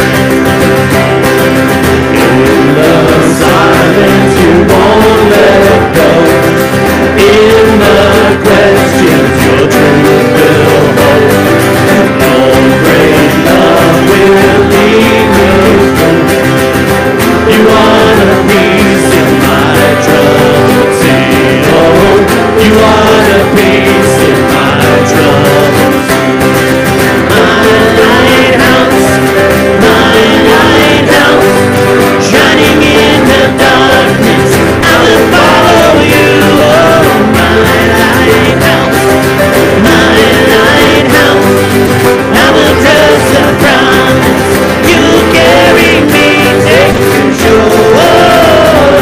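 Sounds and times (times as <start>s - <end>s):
strummed acoustic guitars: 0.0s - 49.0s
voices singing: 0.0s - 49.0s.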